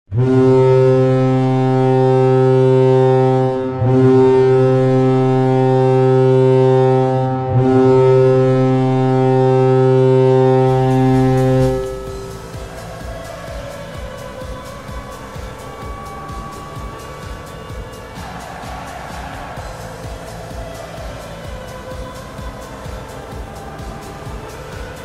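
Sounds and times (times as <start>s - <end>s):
deep air horn blasts: 0.1s - 25.0s.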